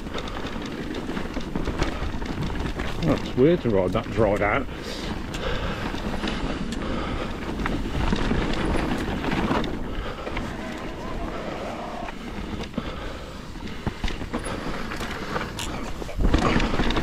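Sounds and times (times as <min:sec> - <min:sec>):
bike rattling over bumps: 0:00.0 - 0:17.0
bike tyres on dirt: 0:00.0 - 0:17.0.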